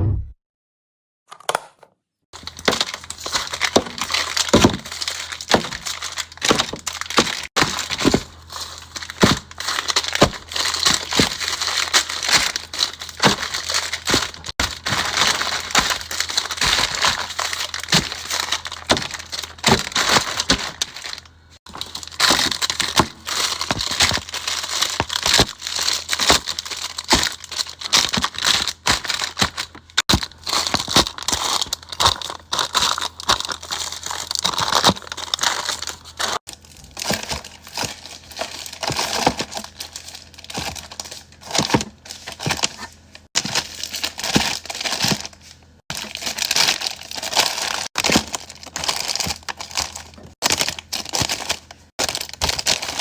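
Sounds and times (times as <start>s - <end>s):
items clicking and knocking: 1.3s - 53.0s
plastic packaging crinkling: 2.4s - 53.0s.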